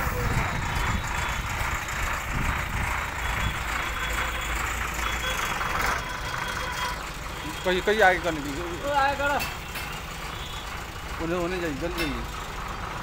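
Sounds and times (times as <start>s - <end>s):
diesel truck engine idling: 0.0s - 13.0s
outdoor noise: 0.0s - 13.0s.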